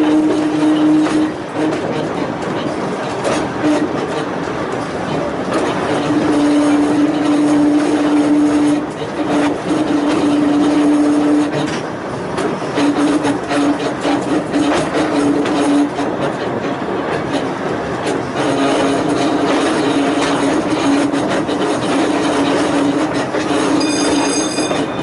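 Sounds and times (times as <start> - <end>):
electric railway car whine: 0.0 - 25.0
train rolling on track: 0.0 - 25.0
wheels clicking over rail joints: 0.0 - 25.0.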